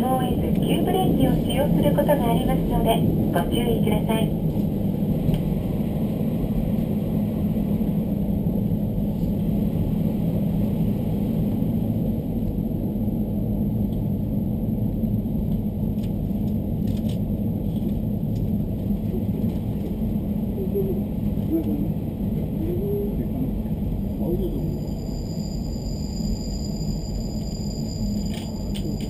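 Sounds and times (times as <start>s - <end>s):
diesel railcar rumbling on track: 0.0s - 29.0s.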